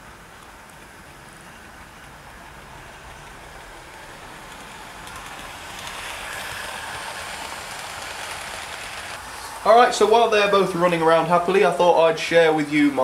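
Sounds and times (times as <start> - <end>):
model train wheels on rail: 0.0 - 13.0.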